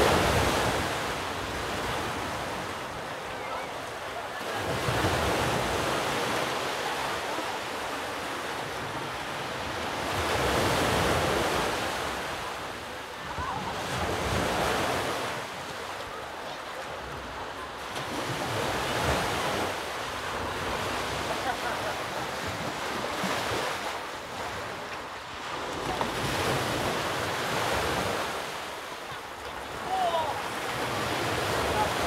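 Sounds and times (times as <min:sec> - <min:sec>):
sea waves breaking: 0:00.0 - 0:32.0.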